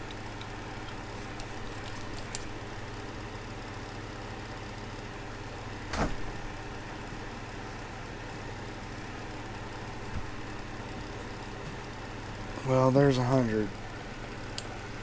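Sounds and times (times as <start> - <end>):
low shop hum: 0.0 - 15.0.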